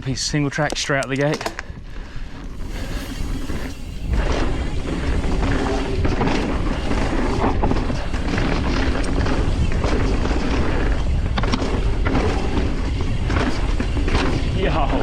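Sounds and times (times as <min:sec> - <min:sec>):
wind rumbling on microphone: 0:00.7 - 0:15.0
bike rattling over bumps: 0:00.9 - 0:15.0
bike tyres rolling over dirt: 0:02.0 - 0:15.0.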